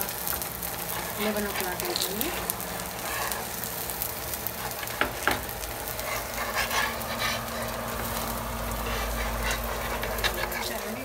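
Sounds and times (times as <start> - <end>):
batter sizzling in oil: 0.0 - 11.0.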